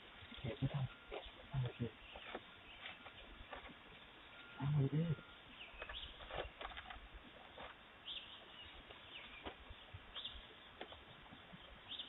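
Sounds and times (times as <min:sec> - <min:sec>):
faint bird chirps: 0:00.2 - 0:12.0.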